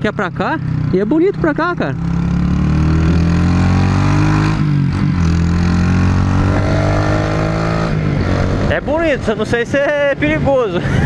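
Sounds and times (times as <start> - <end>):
motorcycle engine running: 0.0 - 10.6
wind and road rush: 0.0 - 11.0.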